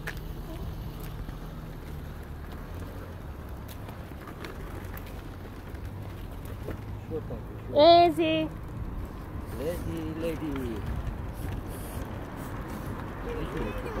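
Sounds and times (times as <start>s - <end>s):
street noise rumble and hiss: 0.0s - 14.0s.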